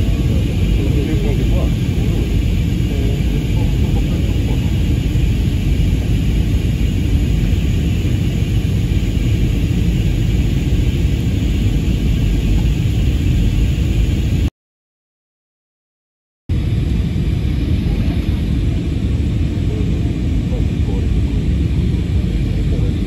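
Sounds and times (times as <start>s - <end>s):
jet airliner cabin rumble: 0.0s - 14.5s, 16.5s - 23.0s.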